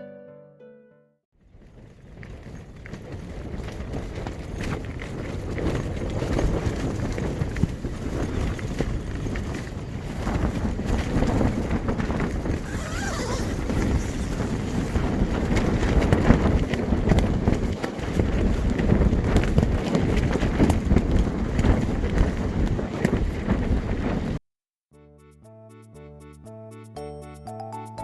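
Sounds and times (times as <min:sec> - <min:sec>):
wind buffeting microphone: 0:01.4 - 0:24.4.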